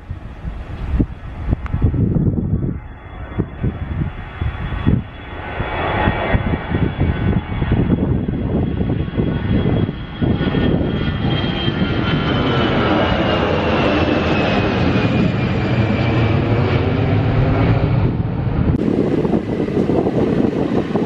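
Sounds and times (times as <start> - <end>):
jet engines whining: 0.0 - 21.0
wind buffeting microphone: 0.0 - 21.0.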